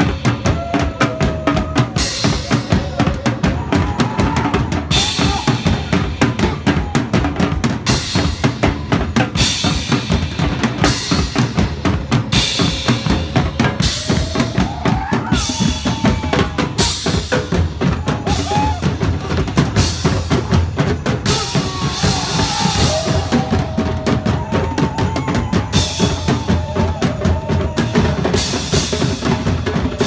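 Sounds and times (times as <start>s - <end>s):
cymbals: 0.0s - 30.0s
drum-heavy music: 0.0s - 30.0s.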